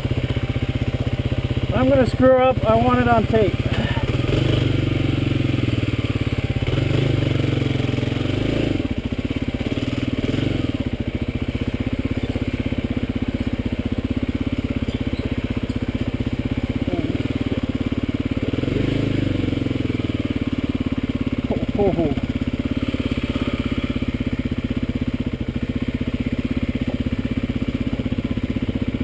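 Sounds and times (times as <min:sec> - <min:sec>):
motorcycle engine at low revs: 0:00.0 - 0:29.0.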